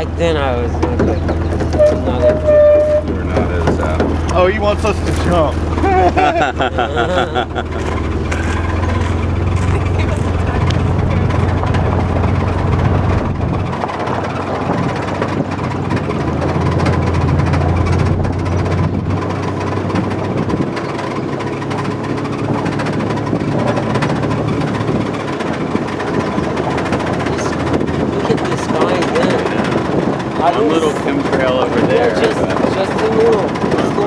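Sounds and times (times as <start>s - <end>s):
low engine hum: 0.0s - 34.0s
tyres rumbling on gravel: 0.0s - 34.0s.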